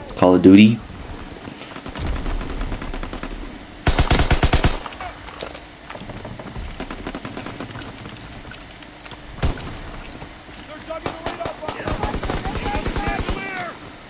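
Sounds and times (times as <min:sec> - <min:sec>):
video game automatic gunfire: 0:00.8 - 0:14.0.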